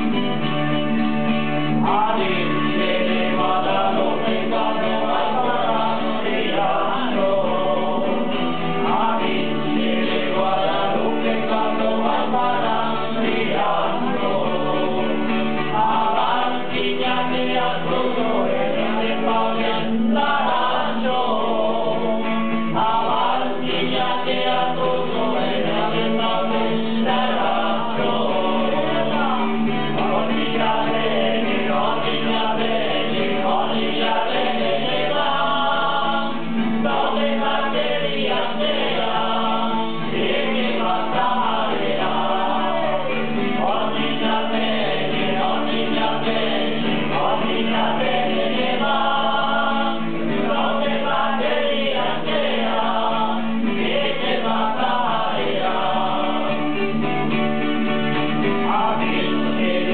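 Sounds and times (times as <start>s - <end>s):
strummed acoustic guitar: 0.0s - 59.9s
men singing together: 1.8s - 59.9s.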